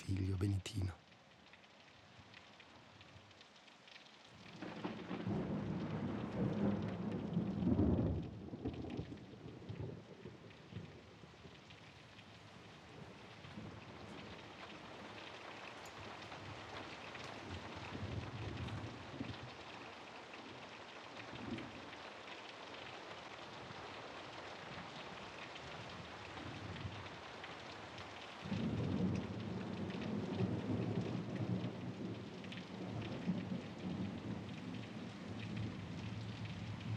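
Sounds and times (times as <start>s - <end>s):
steady rain: 0.0s - 36.9s.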